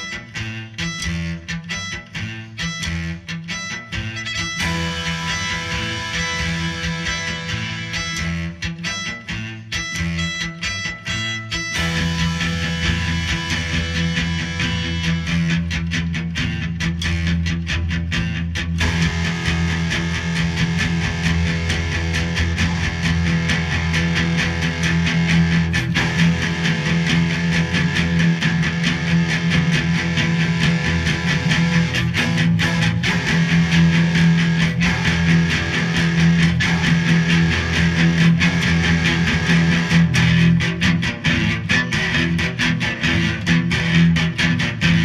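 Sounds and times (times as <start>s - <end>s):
guitar music: 0.0s - 45.0s.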